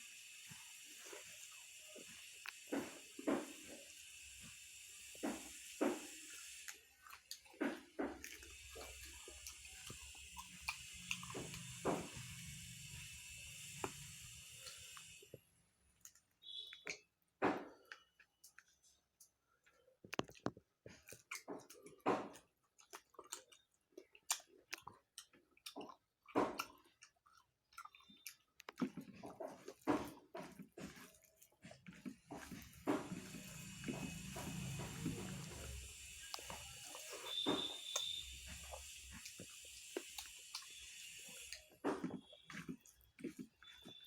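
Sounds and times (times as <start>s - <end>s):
wet chewing and lip smacks: 0.3s - 15.1s, 15.9s - 44.0s.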